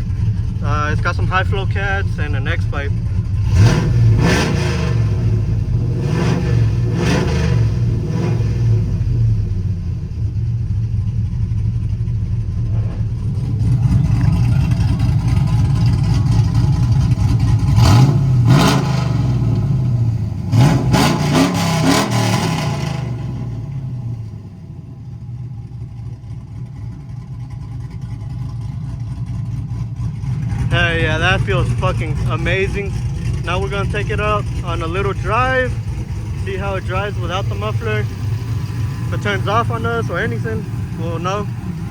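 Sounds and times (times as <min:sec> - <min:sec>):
truck engine idling and revving: 0:00.0 - 0:41.9.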